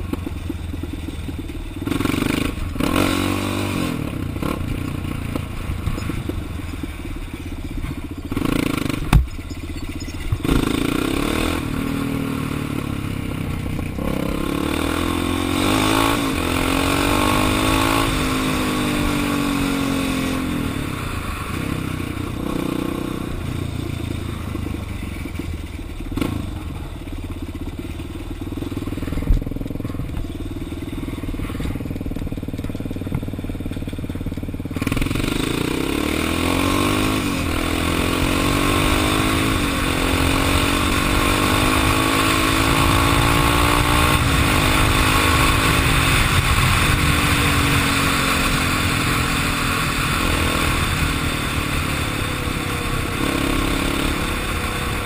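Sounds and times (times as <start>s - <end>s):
quad bike engine accelerating: 0.0s - 55.0s.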